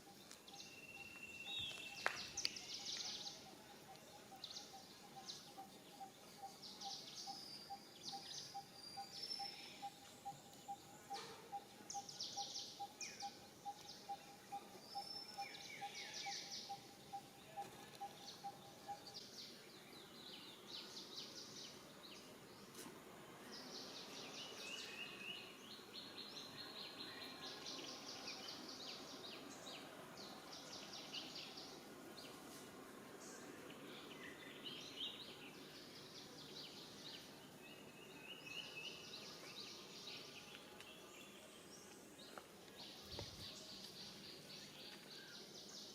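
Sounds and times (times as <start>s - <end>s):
faint birds chirping and trilling: 0.0s - 45.9s.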